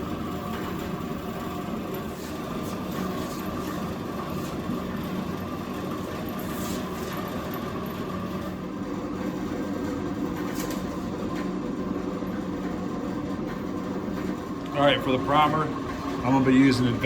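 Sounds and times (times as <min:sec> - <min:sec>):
machine hum with constant tones: 0:00.0 - 0:17.0.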